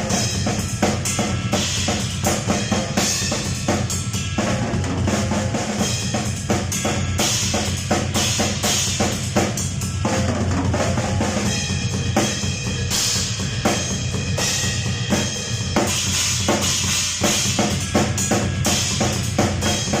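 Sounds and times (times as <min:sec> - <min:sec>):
cymbal crashes: 0:00.0 - 0:20.0
drum kit groove: 0:00.0 - 0:20.0.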